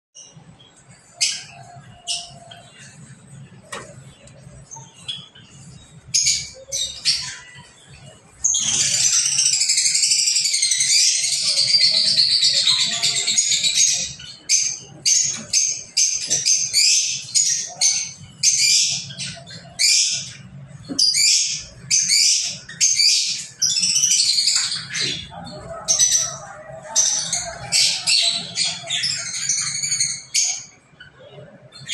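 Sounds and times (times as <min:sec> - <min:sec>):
lovebirds chirping and chattering: 0:00.2 - 0:31.9.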